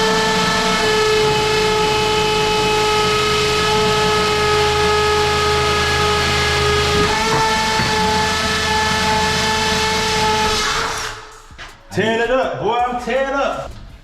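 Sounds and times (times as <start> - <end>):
power drill whining: 0.0 - 11.4.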